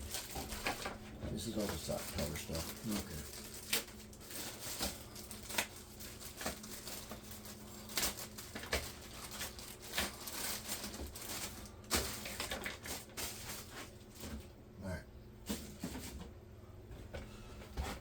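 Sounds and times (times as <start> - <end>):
plastic bags crinkling: 0.0 - 14.5.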